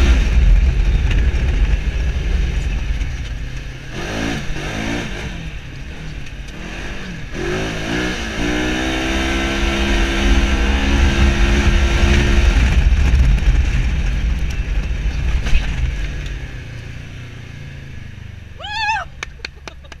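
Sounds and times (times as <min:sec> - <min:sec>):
tyre and ride rumble: 0:00.0 - 0:17.6
engine running: 0:00.0 - 0:20.0.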